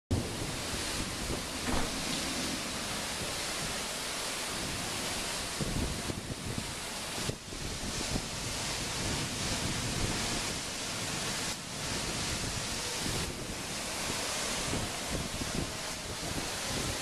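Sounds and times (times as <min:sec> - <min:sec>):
gusting wind buffeting microphone: 0:00.1 - 0:17.0
heavy rain: 0:00.1 - 0:17.0.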